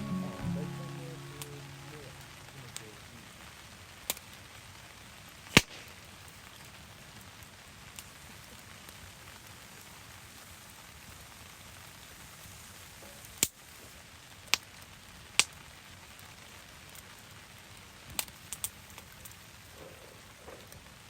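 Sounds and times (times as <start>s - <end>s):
campfire crackling: 0.0s - 21.0s
steady rain: 0.0s - 21.0s.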